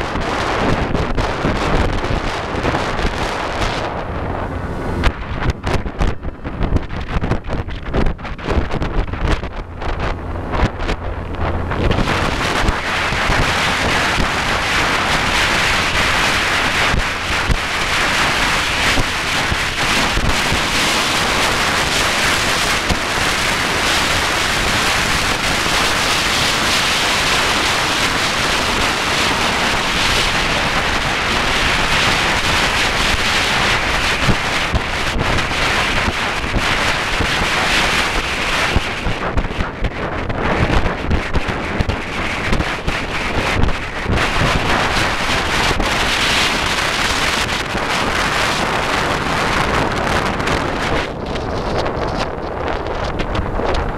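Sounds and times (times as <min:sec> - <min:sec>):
water rushing: 0:00.0 - 0:39.4, 0:40.4 - 0:51.4
boat motor: 0:00.0 - 0:53.9
wind buffeting microphone: 0:00.0 - 0:53.9.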